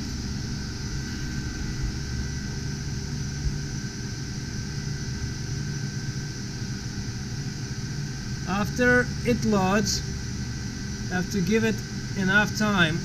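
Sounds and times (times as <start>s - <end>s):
cooling fans whirring: 0.0s - 13.0s
faint high whine: 0.0s - 13.0s
low hum: 0.0s - 13.0s.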